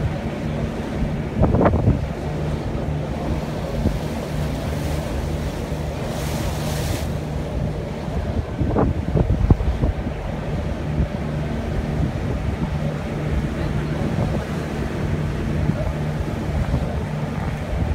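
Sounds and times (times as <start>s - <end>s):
boat engine humming: 0.0s - 17.9s
water rushing past hull: 0.0s - 17.9s
wind on microphone: 0.0s - 17.9s.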